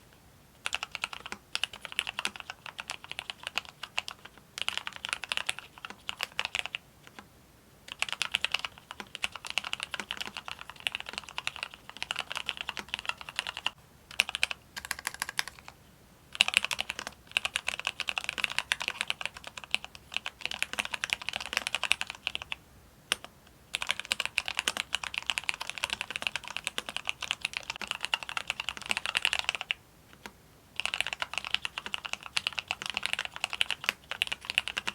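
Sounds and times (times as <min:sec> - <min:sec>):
mechanical keyboard typing: 0:00.6 - 0:07.3, 0:07.9 - 0:34.9.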